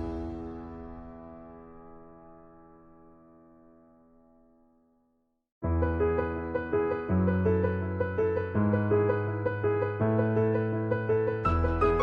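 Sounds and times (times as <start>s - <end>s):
piano music: 0.0s - 4.8s, 5.6s - 12.0s.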